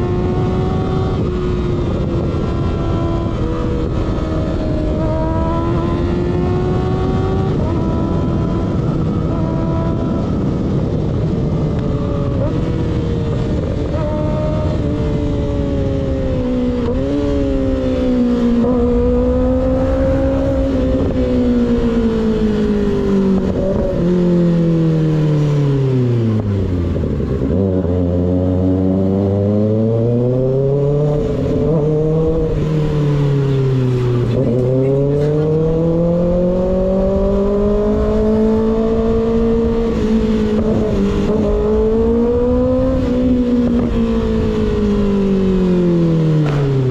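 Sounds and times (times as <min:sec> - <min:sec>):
motorcycle engine: 0:00.0 - 0:46.9.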